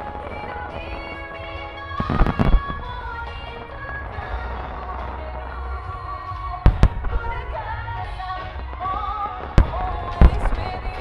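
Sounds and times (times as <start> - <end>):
firework shells booming: 0.0 - 5.5, 6.6 - 11.0.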